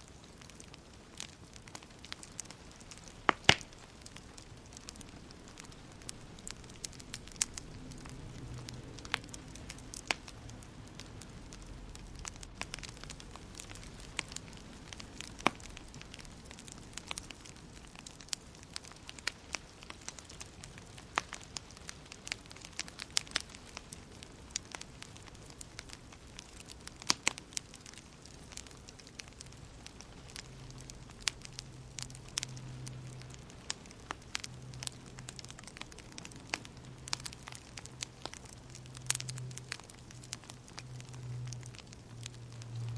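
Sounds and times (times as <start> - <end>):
low rumble of flames: 0.0 - 42.9
wood fire crackling: 0.0 - 42.9.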